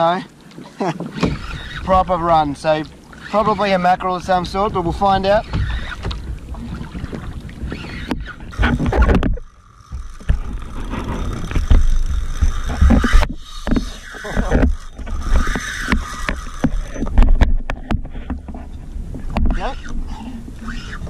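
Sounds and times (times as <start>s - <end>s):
water slapping boat hull: 0.0s - 21.0s
wind buffeting microphone: 1.0s - 21.0s.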